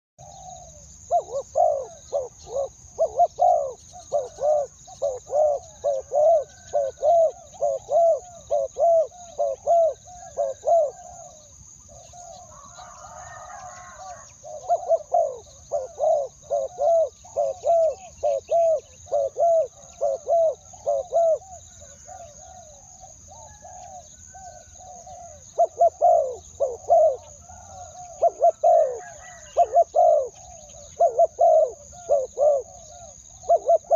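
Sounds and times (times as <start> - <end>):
doves cooing: 0.2 - 33.9.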